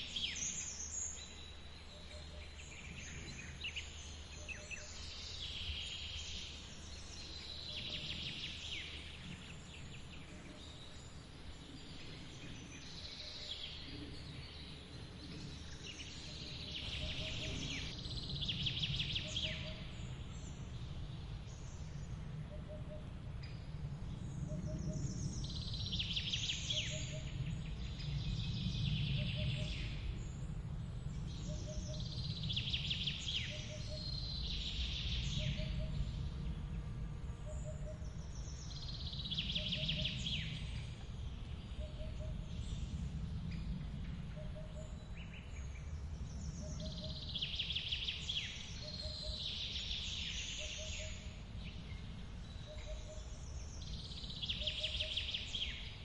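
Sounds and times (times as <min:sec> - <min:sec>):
birds singing high calls: 0:00.0 - 0:56.0.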